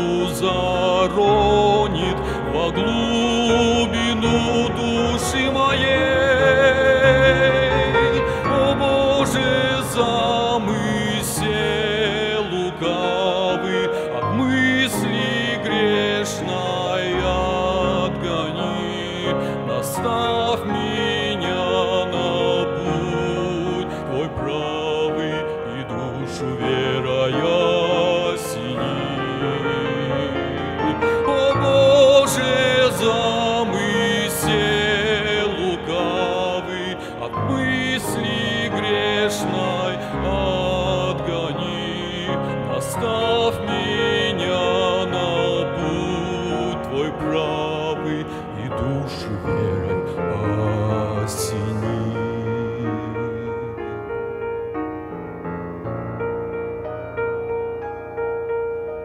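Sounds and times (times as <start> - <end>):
man singing a hymn: 0.0 - 54.1.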